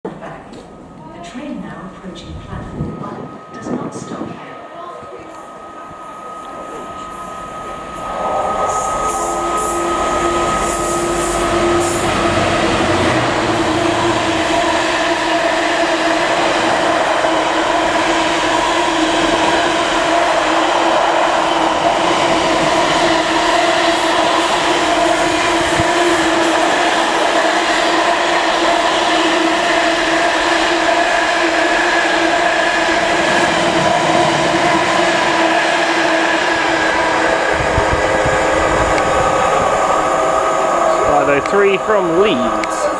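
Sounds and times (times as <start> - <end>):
steady whine: 0.2 - 28.7, 31.7 - 42.9.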